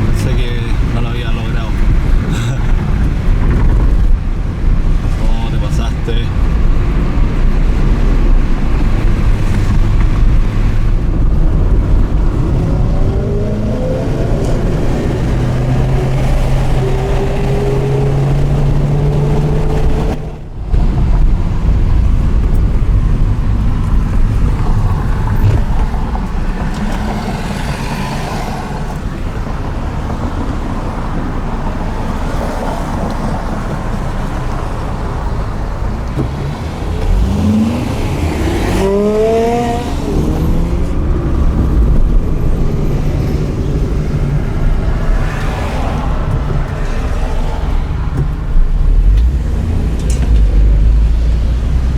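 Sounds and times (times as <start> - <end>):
road noise: 0.0 - 51.9
sports car engine running: 0.0 - 51.9.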